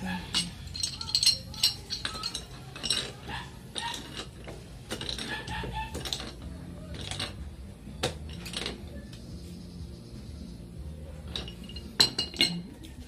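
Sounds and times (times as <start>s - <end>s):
metal pipe threads clicking and scraping: 0.0s - 9.3s, 11.2s - 13.0s.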